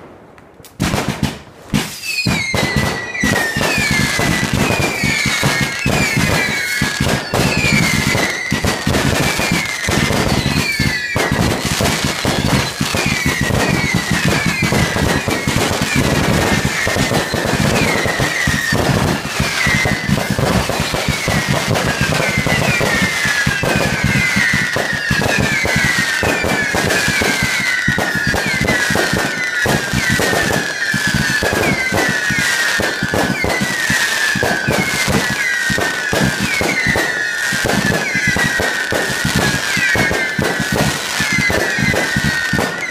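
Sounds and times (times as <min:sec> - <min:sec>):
firework bangs and crackles: 0:00.0 - 0:42.9
whistling fireworks: 0:00.0 - 0:42.9.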